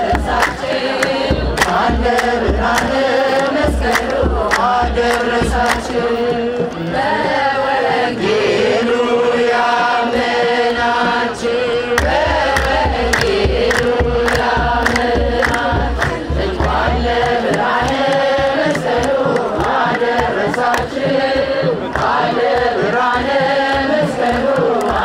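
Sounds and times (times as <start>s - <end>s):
crowd chanting a hymn: 0.0s - 25.0s.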